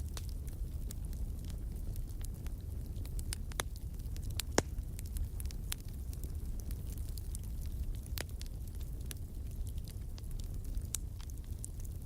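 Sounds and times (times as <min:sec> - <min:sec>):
low rumble of flames: 0:00.0 - 0:12.0
wood crackling and popping: 0:00.0 - 0:12.0.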